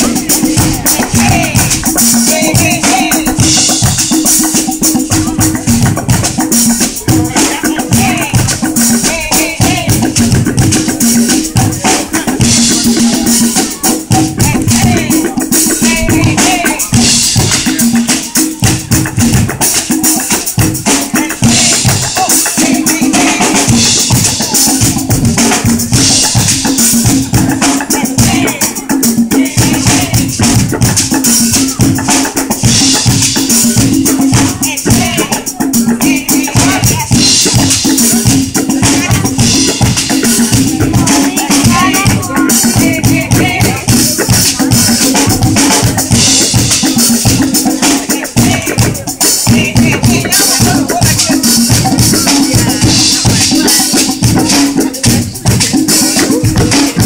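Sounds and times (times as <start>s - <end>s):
fast dense drumming: 0.0s - 57.0s
rattling shaker: 0.0s - 57.0s
upbeat music: 0.0s - 57.0s.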